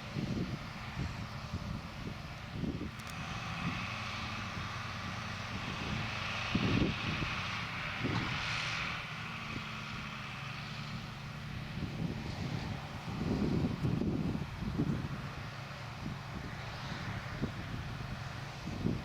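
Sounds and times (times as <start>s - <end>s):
hay machinery whirring: 0.0s - 19.0s
tractor engine running: 0.0s - 19.0s
wind buffeting microphone: 0.0s - 19.0s.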